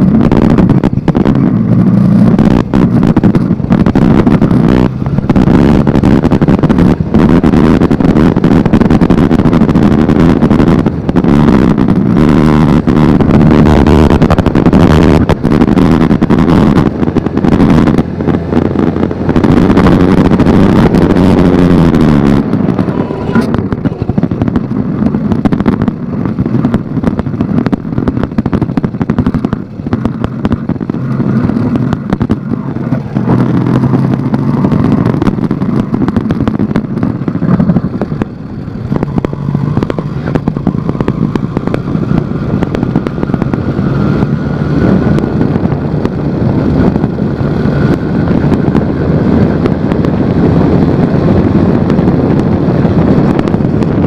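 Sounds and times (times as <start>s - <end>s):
small motorbike engine running: 0.0s - 54.0s.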